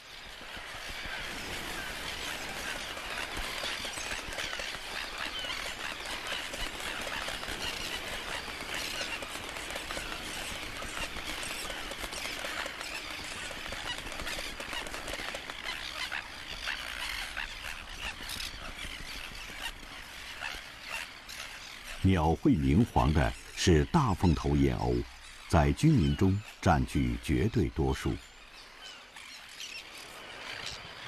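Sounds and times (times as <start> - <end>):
terns calling: 0.1 - 31.0.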